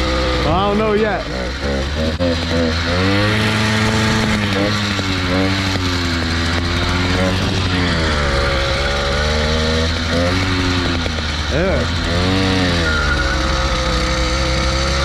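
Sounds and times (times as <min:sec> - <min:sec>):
two-stroke motorbike engine revving: 0:00.0 - 0:15.0.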